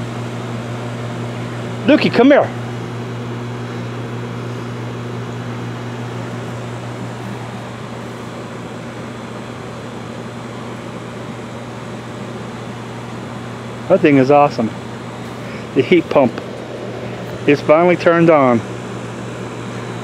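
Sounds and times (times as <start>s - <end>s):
fan airy noise: 0.0s - 20.0s
heat pump humming: 0.0s - 20.0s.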